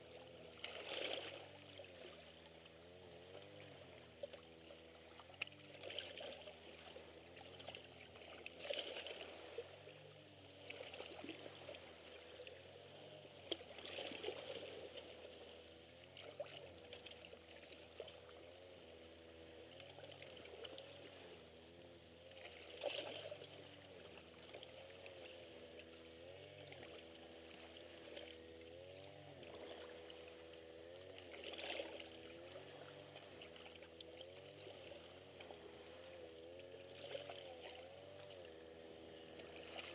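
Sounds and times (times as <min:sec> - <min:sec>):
small waves lapping on rock: 0:00.0 - 0:39.9
steady low hum: 0:00.0 - 0:39.9.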